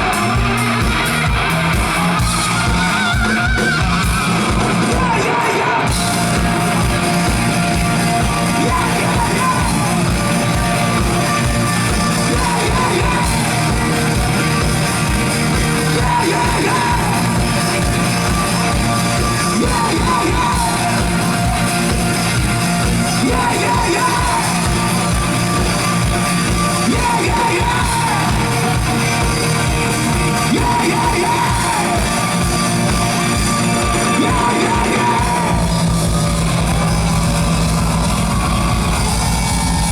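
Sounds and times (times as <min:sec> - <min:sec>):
fast driving drums: 0:00.0 - 0:39.9
live rock band playing: 0:00.0 - 0:39.9
person singing and yelling: 0:02.4 - 0:35.9.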